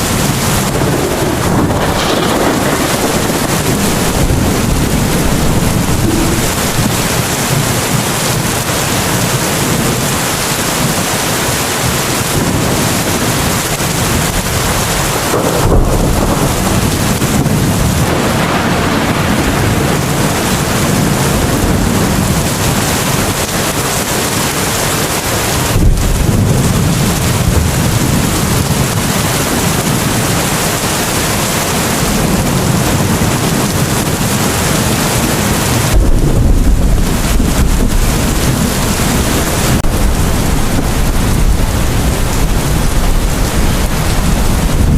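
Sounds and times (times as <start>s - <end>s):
low thunder rumbles: 0.0s - 24.4s, 25.0s - 44.9s
rain falling: 0.0s - 44.9s.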